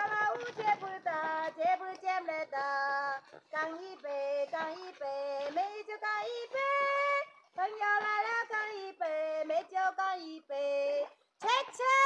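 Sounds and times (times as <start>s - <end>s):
young woman singing: 0.0s - 12.0s.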